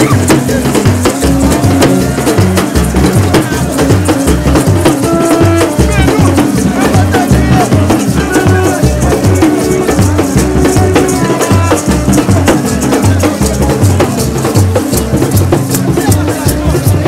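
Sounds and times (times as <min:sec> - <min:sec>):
bass drums and metal drums: 0:00.0 - 0:17.0
shaker rattling: 0:00.0 - 0:17.0.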